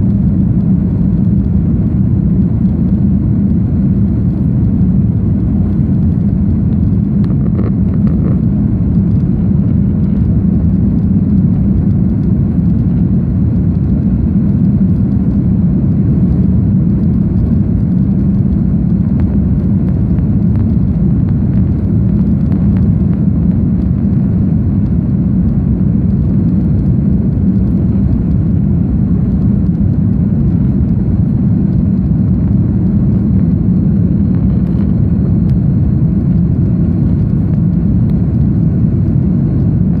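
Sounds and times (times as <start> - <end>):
faint high whine: 0.0 - 40.0
jet engines and airflow rumble: 0.0 - 40.0.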